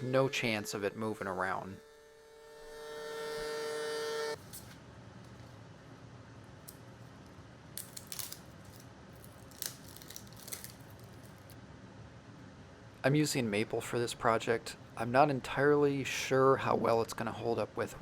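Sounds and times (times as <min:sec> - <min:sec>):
steady pitched hum: 0:00.0 - 0:18.0.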